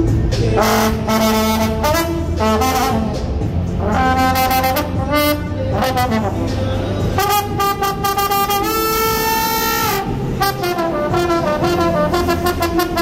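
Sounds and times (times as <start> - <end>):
trombone melody: 0.0 - 13.0.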